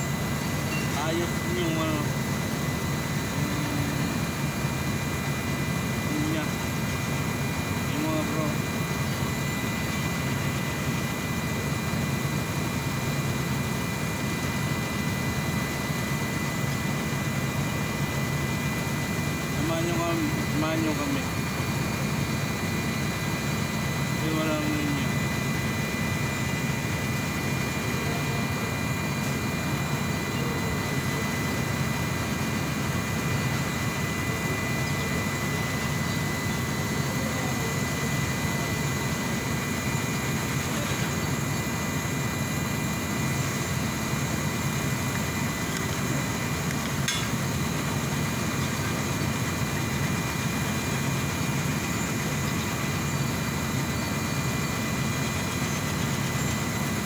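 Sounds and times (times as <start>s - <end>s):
engine idling: 0.0s - 57.0s
faint high whine: 0.0s - 57.0s.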